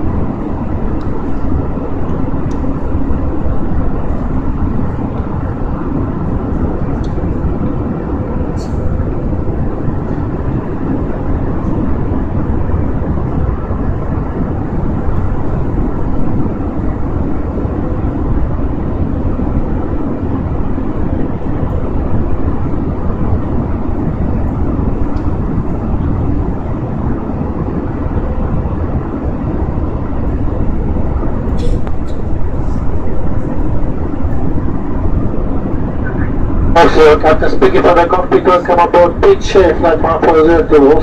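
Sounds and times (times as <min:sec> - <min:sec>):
jet cabin engine noise: 0:00.0 - 0:41.0.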